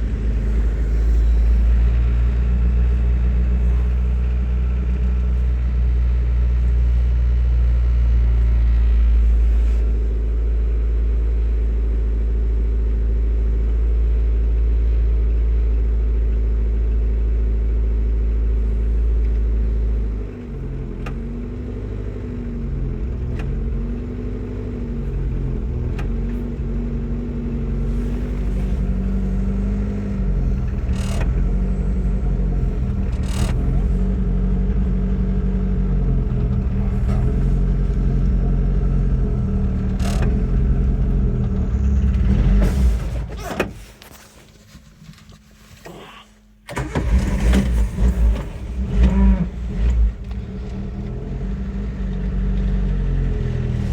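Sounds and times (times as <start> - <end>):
car engine idling: 0.0 - 44.7, 45.5 - 53.9.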